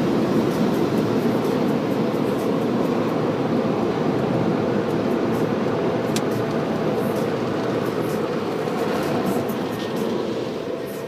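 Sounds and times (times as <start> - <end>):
car wash machinery drone: 0.0 - 11.0.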